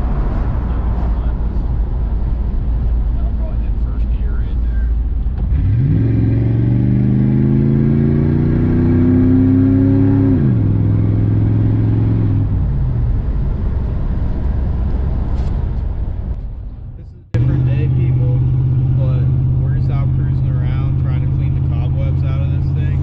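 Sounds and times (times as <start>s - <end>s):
car engine accelerating: 0.0s - 23.0s
road rumble: 0.0s - 23.0s.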